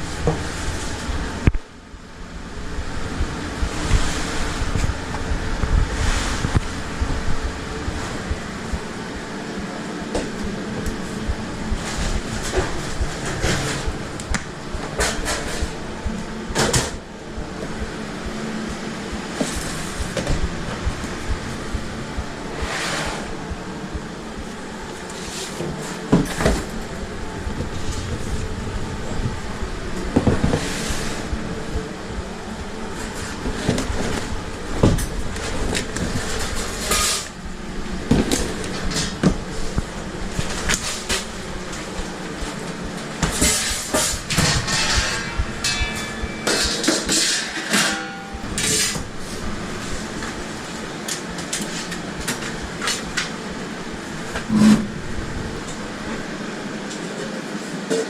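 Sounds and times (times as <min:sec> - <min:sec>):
kitchen equipment hum: 0:00.0 - 0:57.6.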